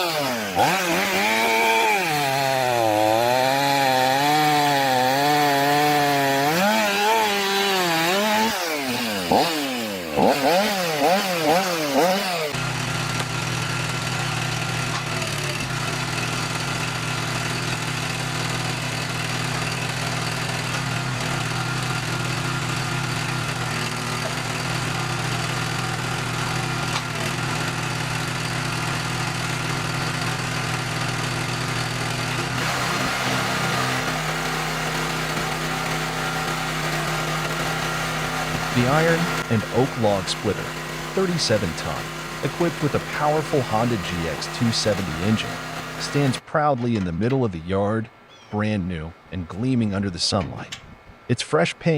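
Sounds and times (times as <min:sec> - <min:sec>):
chainsaw cutting log: 0:00.0 - 0:46.4
small engine running steadily: 0:00.0 - 0:46.4.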